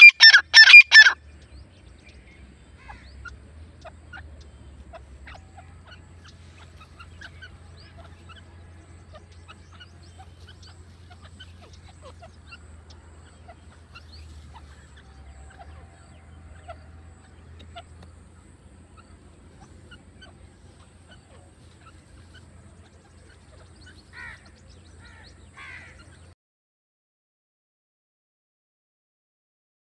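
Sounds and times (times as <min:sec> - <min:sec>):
francolins calling: 0:00.0 - 0:26.4
steady low hum: 0:01.2 - 0:26.3.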